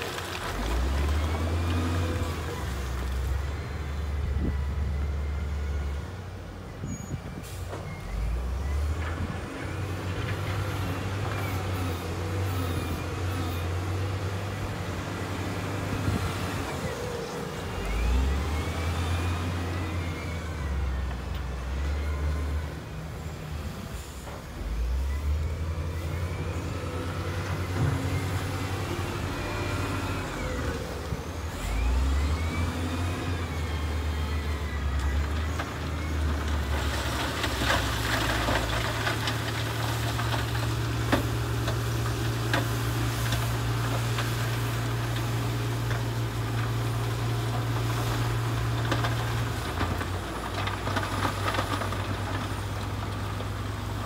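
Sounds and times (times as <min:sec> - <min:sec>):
heavy diesel machine engine: 0:00.0 - 0:54.0.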